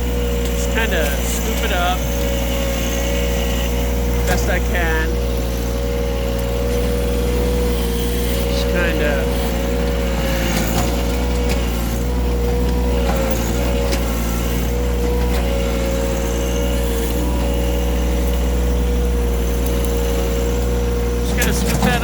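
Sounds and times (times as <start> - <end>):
backhoe scooping debris: 0.0 - 22.0
tractor diesel engine running: 0.0 - 22.0.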